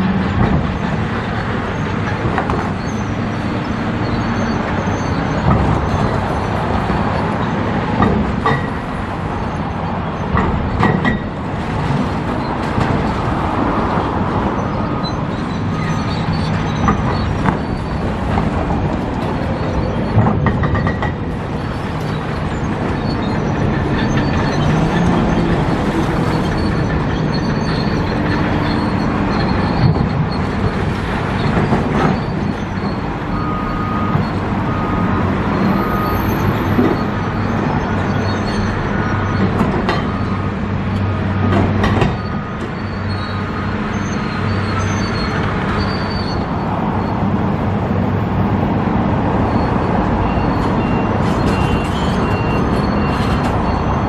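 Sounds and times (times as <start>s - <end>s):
loud vehicle noise: 0.0s - 54.0s.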